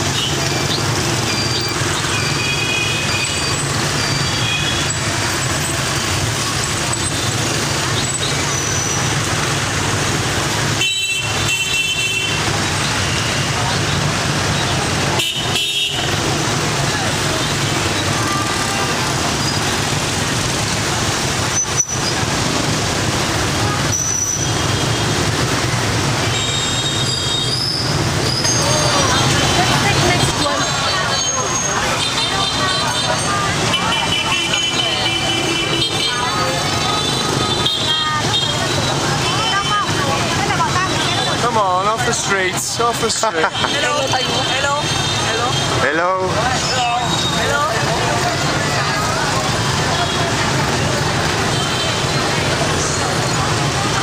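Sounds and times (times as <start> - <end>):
traffic engines din: 0.0 - 54.0.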